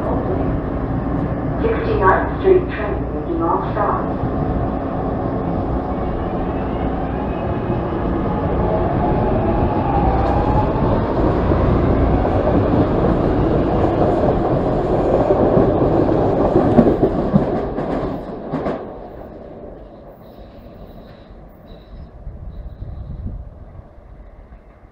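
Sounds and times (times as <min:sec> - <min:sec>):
train wheels on track: 0:00.0 - 0:24.9.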